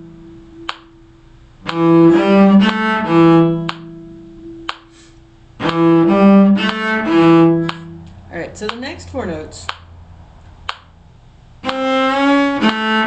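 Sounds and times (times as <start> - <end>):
bowed string instrument phrase: 0.0 - 10.3, 11.6 - 13.0.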